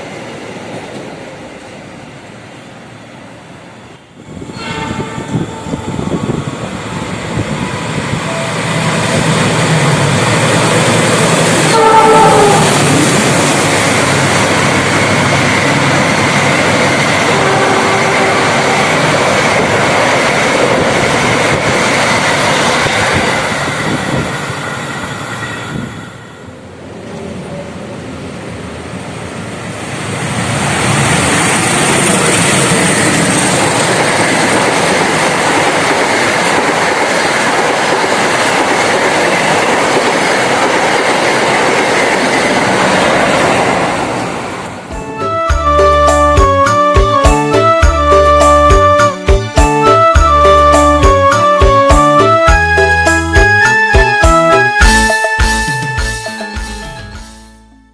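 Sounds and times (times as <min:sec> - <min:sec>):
train passing on rails: 0:00.0 - 0:57.3.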